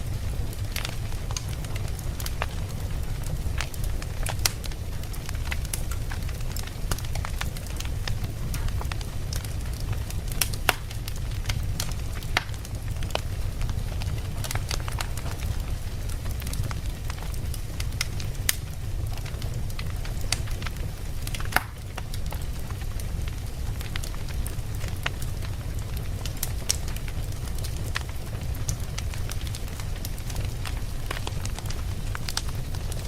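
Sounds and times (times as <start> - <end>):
fire low rumble: 0.0 - 33.0
wood crackling and popping: 0.0 - 33.0.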